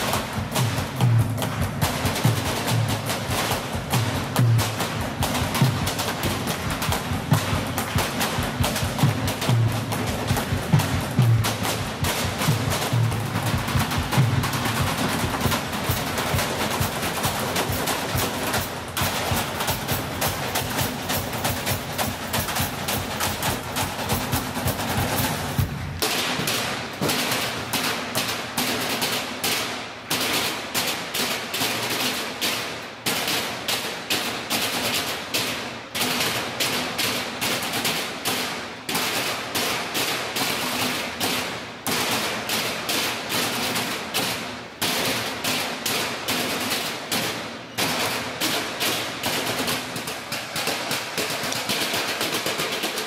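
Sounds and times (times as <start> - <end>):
drumming on trash cans: 0.0 - 53.0.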